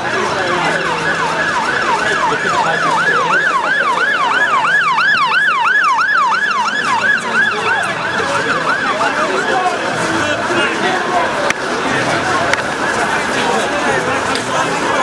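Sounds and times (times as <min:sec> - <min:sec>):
emergency siren yelping: 0:00.0 - 0:15.0.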